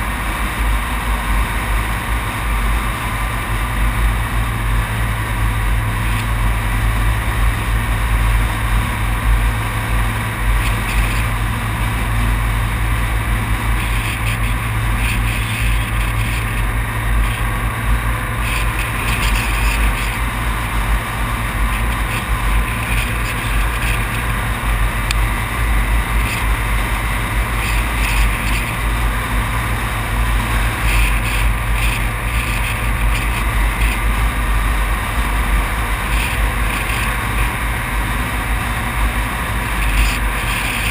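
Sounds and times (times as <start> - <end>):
road drone: 0.0 - 40.9.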